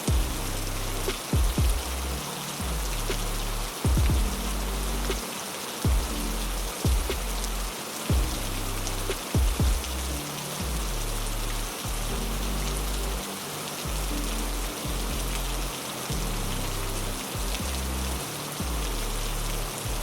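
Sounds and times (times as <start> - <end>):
heavy rain hiss: 0.0 - 20.0
low musical drone: 0.0 - 20.0.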